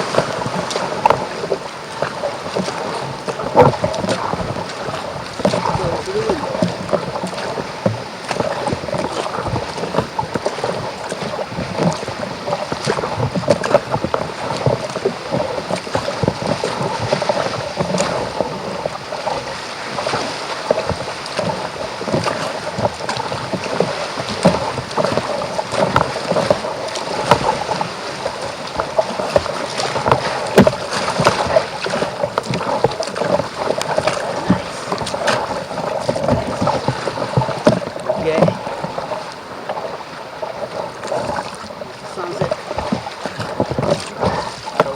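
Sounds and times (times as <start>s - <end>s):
continuous wash of water: 0.0s - 44.9s
water splashing around kayak: 0.0s - 44.9s.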